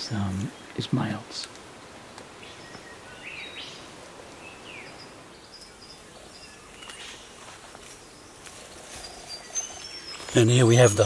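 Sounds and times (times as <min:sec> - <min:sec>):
chirping bird calls: 0:00.0 - 0:11.0
steady background hiss: 0:00.0 - 0:11.0.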